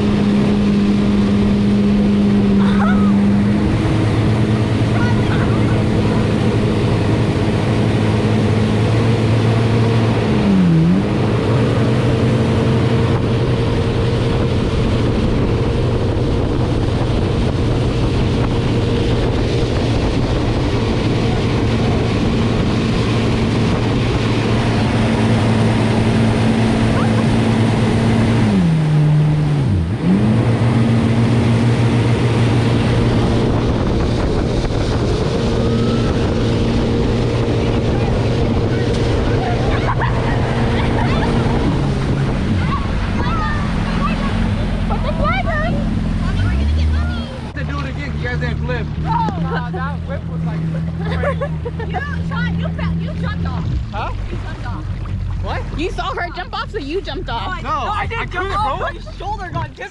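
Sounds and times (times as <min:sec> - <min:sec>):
rushing wind and water: 0:00.0 - 0:59.9
watercraft engine running: 0:00.0 - 0:59.9.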